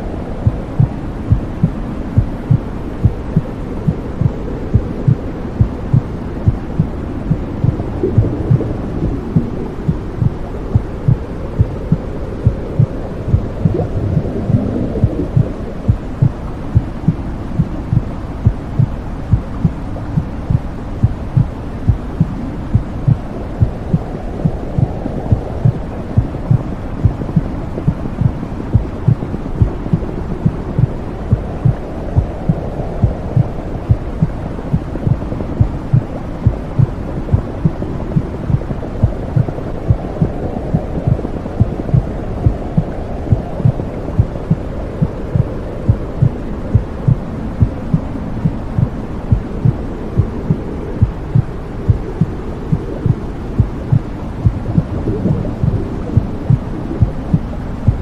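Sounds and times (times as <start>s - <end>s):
low whooshing rumble: 0.0s - 58.0s
heartbeat thumps: 0.4s - 58.0s.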